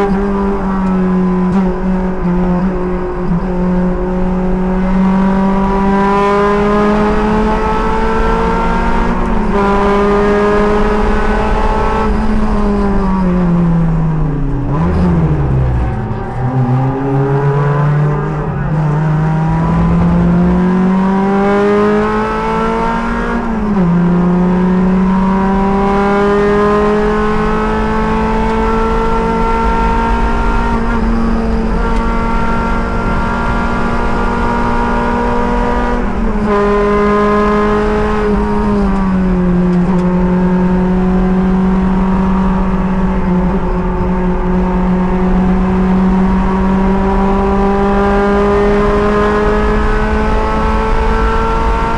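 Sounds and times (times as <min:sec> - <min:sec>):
race car engine accelerating: 0:00.0 - 0:51.9.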